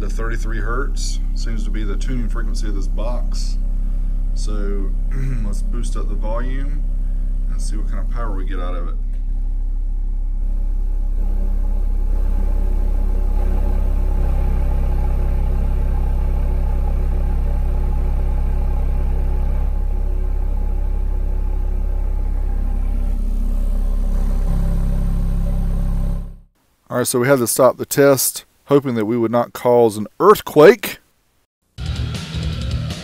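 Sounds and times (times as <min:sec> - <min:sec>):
distorted low subwoofer test tone: 0:00.0 - 0:26.5.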